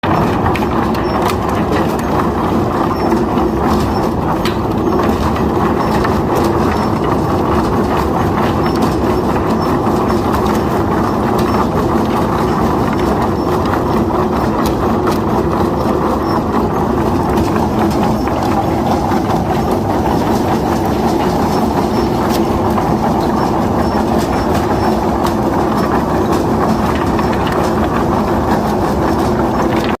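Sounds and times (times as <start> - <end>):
debarker rollers humming: 0.0 - 30.0
logs knocking and rattling: 0.0 - 30.0.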